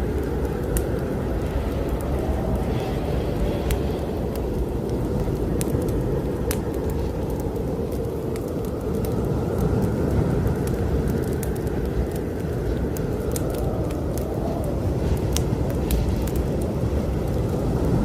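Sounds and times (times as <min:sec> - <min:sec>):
fire crackling: 0:00.0 - 0:18.0
strong wind rushing: 0:00.0 - 0:18.0.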